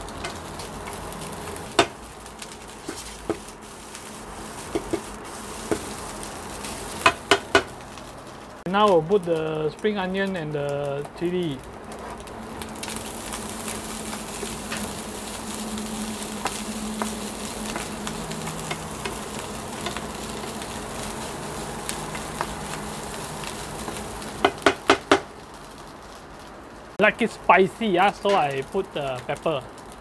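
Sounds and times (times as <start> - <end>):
food sizzling in a frying pan: 0.0 - 8.7, 11.6 - 27.0, 28.0 - 30.0.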